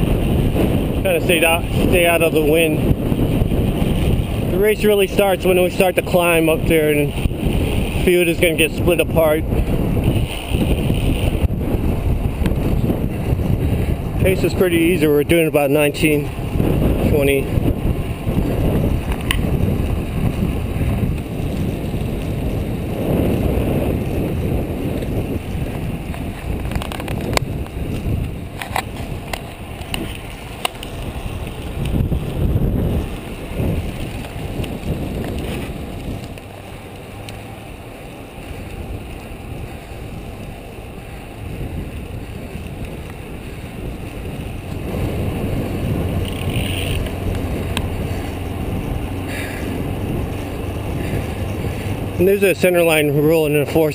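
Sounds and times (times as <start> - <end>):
bicycle tyre noise: 0.0 - 53.9
wind buffeting microphone: 0.0 - 53.9.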